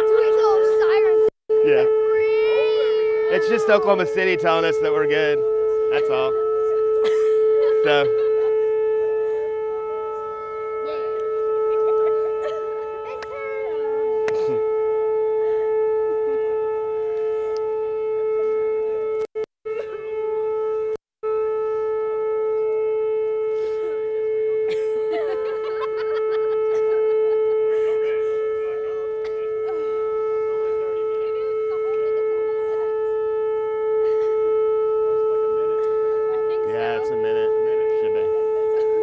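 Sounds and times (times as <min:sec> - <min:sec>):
warning siren steady tone: 0:00.0 - 0:39.0.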